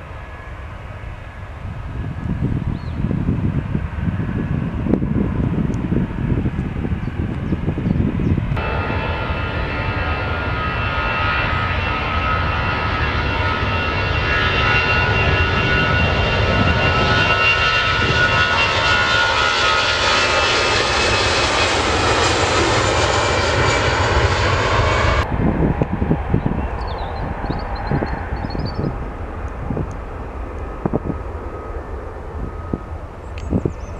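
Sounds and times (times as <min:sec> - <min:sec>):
airliner engines rumbling and whining: 0:00.0 - 0:33.9.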